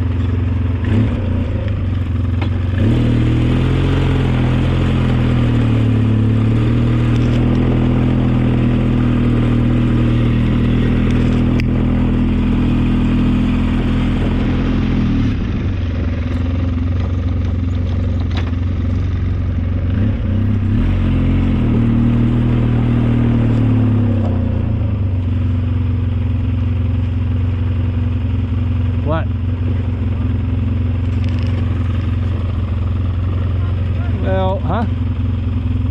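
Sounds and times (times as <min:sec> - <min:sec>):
snowplow engine running: 0:00.0 - 0:35.9.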